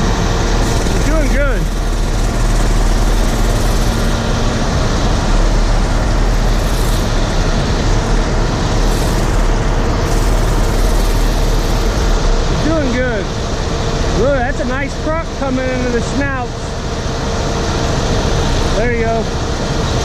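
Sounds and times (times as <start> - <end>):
harvest machinery drone: 0.0 - 20.0.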